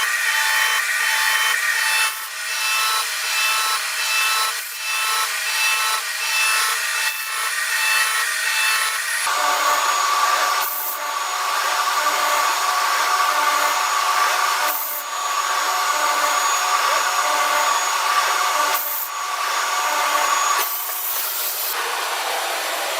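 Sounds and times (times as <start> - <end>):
machine tool grinding metal: 0.0 - 21.8.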